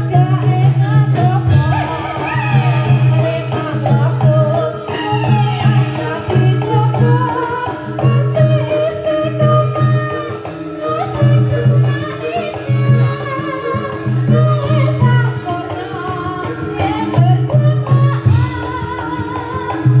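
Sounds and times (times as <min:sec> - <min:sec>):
drums beating in bursts: 0:00.0 - 0:20.0
wavering bending melody: 0:00.0 - 0:20.0.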